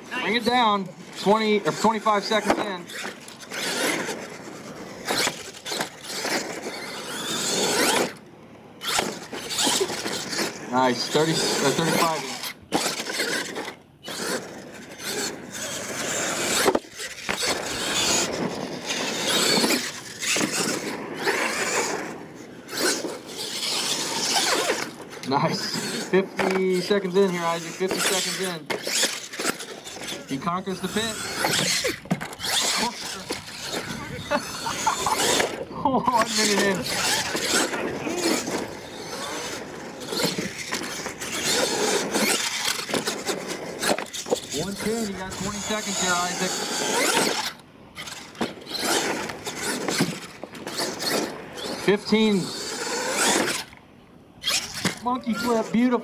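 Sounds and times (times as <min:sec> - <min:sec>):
tyres scrabbling on dirt: 0:00.0 - 0:08.2, 0:08.8 - 0:53.7
toy truck motor surging: 0:00.1 - 0:08.2, 0:08.8 - 0:53.8, 0:54.4 - 0:56.0.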